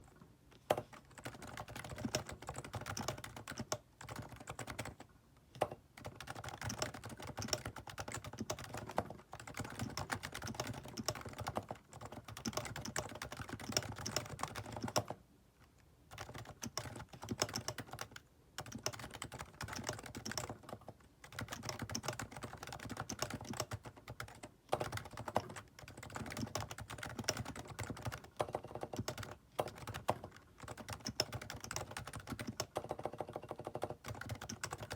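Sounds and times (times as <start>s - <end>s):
keyboard typing: 0.5s - 15.2s, 16.1s - 34.9s.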